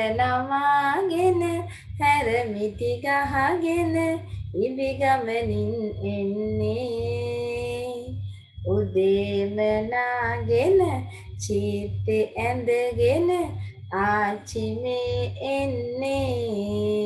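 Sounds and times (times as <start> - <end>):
low steady hum: 0.0 - 17.0
person singing slow song: 0.0 - 17.0.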